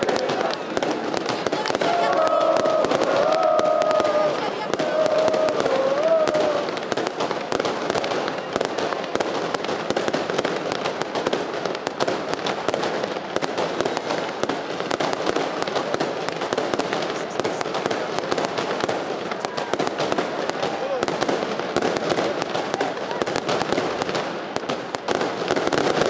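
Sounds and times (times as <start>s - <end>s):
crowd din: 0.0s - 26.0s
firecrackers crackling: 0.0s - 26.0s.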